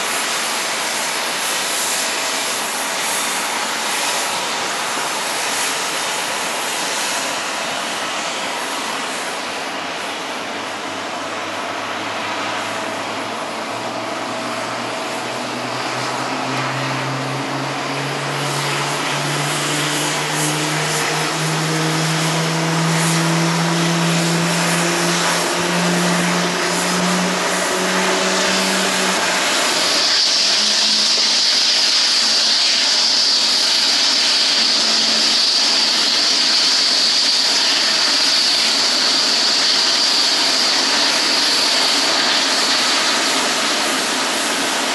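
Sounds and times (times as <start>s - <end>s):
high-pitched jet whine: 0.0s - 44.9s
jet engine hum rising: 0.0s - 44.9s
loud rush of noise: 0.0s - 44.9s.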